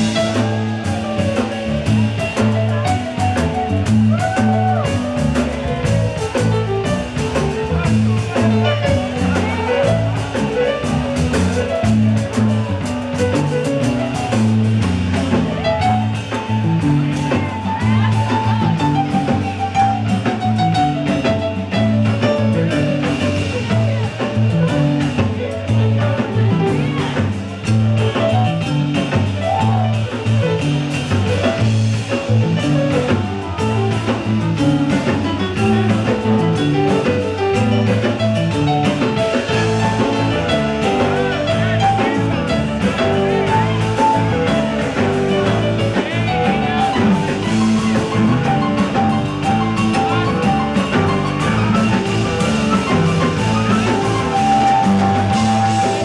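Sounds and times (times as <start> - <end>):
bass guitar: 0.0 - 56.0
drum kit: 0.0 - 56.0
electric guitars: 0.0 - 56.0
keyboard: 0.0 - 56.0.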